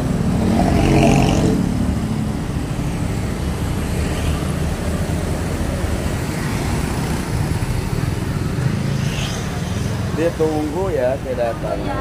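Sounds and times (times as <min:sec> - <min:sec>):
steady traffic rumble: 0:00.0 - 0:12.0
vehicle passing close by: 0:00.0 - 0:12.0.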